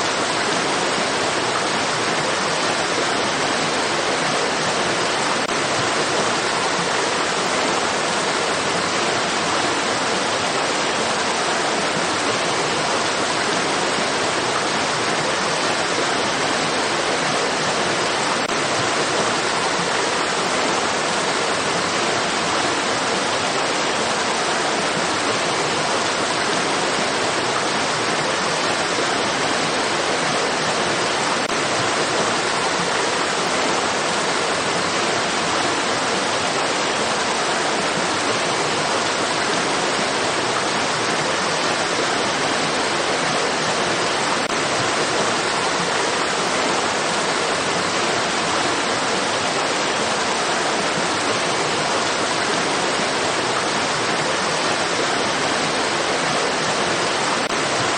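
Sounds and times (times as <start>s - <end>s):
stream water running: 0.0s - 57.9s.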